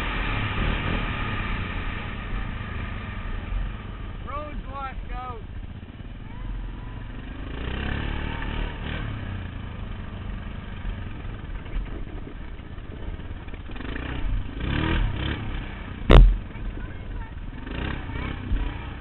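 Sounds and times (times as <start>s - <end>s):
quad engine revving: 0.0s - 19.0s.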